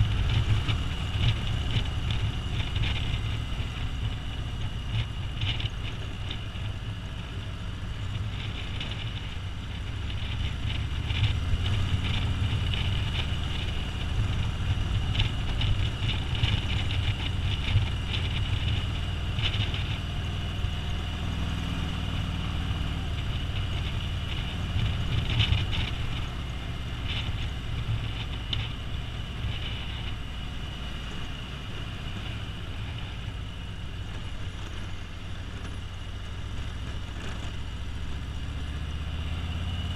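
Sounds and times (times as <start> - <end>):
motorcycle engine rumble: 0.0 - 39.9
wind noise on microphone: 0.0 - 39.9.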